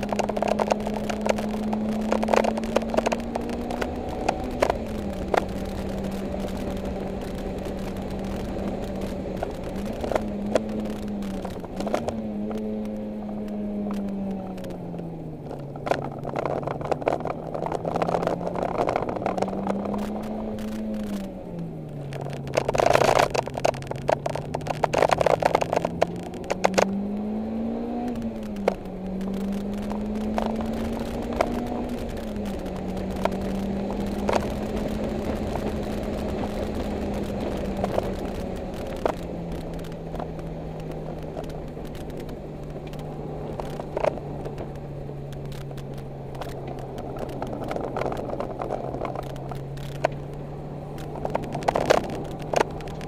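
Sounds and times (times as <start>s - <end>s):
car engine from inside cabin: 0.0s - 53.0s
clicks and rattles: 0.0s - 53.0s.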